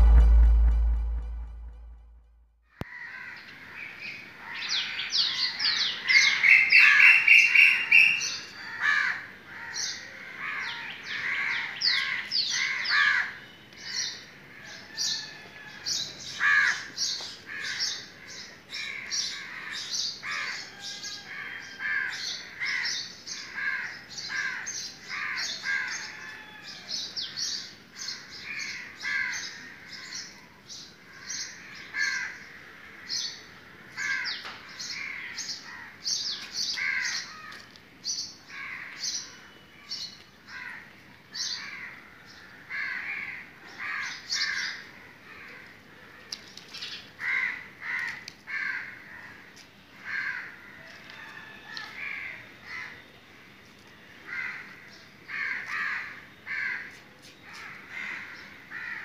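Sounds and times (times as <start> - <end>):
birds chirping and trilling: 3.1 - 45.5, 48.5 - 59.0.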